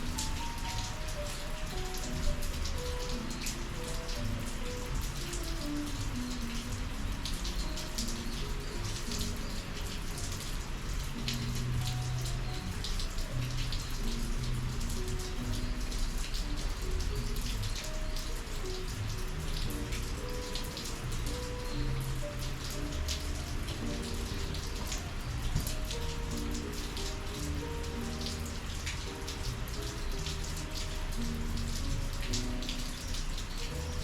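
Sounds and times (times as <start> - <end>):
rain tapping: 0.0 - 34.0
soft music: 0.0 - 34.0.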